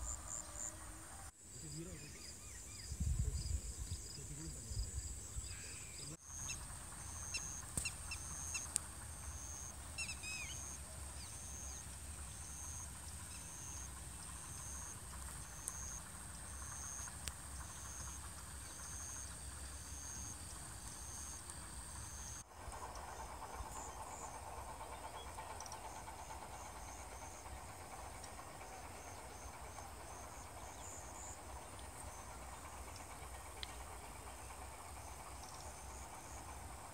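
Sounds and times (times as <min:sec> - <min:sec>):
repeating insect chirp: 0:01.4 - 0:36.9
low steady rumble: 0:02.7 - 0:36.9.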